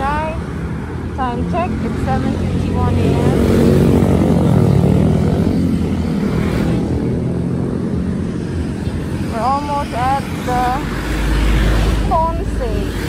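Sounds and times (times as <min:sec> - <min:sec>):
car engines with tyre noise: 0:00.0 - 0:13.0
motorcycle engines: 0:00.0 - 0:13.0.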